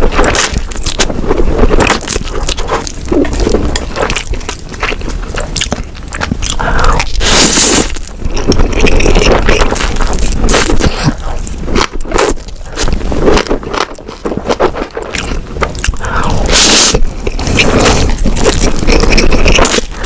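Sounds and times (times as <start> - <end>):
person chewing and crunching: 0.0 - 20.0.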